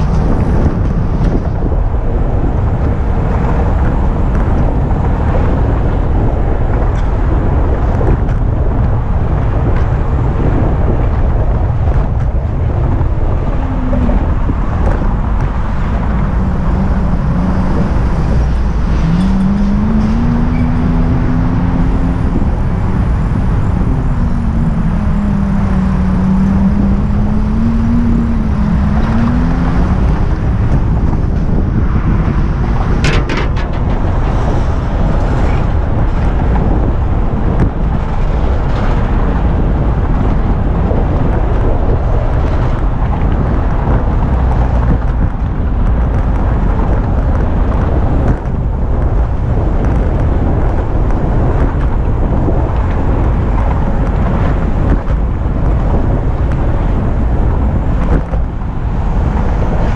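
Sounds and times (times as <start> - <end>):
traffic rumble: 0.0 - 59.9
vehicle engine drone wavering: 0.0 - 59.9
wind on microphone: 0.0 - 59.9.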